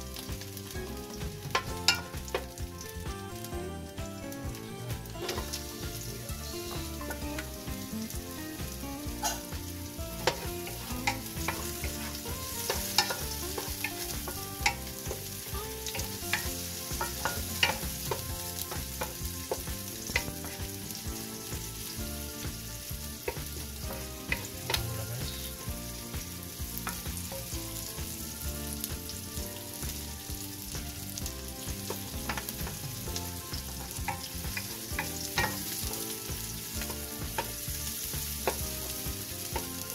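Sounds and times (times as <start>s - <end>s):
onion and garlic sizzling in oil: 0.0s - 39.9s
wooden spoon knocking pan: 0.2s - 3.4s, 4.4s - 39.9s.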